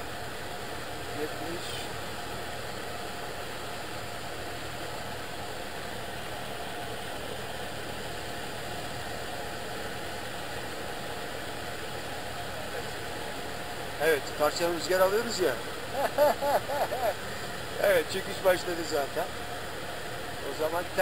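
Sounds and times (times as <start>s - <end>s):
propeller plane engine drone: 0.0s - 21.0s.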